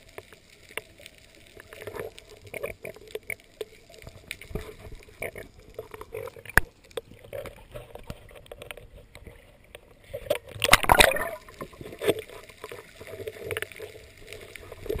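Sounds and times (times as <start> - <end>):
underwater clicks: 0.0 - 15.0
water splashing and bubbling: 0.0 - 15.0.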